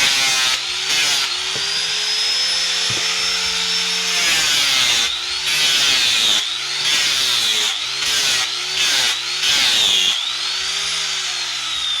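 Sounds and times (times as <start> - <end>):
angle grinder grinding wood: 0.0 - 12.0.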